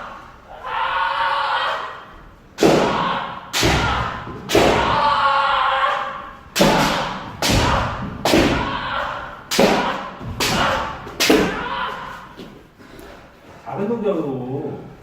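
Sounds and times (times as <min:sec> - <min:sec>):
people shouting: 0:00.0 - 0:12.6.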